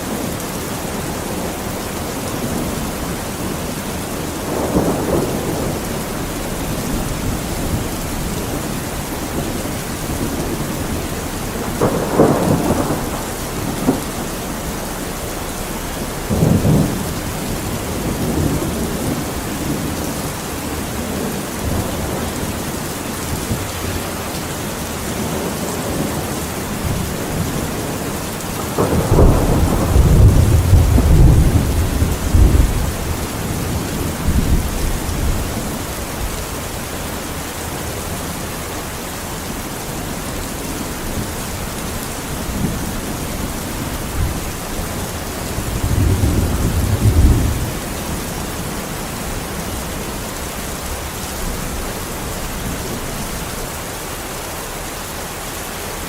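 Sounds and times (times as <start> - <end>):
steady rain: 0.0 - 56.0
low thunder rumble: 0.4 - 53.6
thunder claps: 2.5 - 24.5, 25.1 - 36.8, 40.9 - 53.4.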